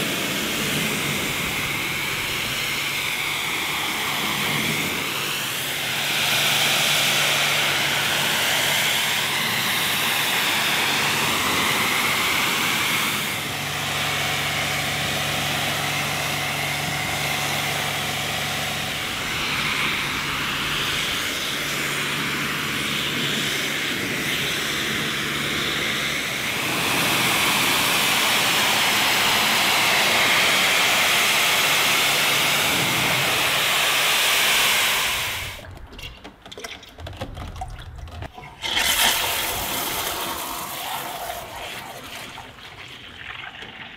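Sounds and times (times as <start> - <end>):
pressure washer spray hissing: 0.0 - 35.6, 38.8 - 42.3
pump hum: 0.0 - 43.9.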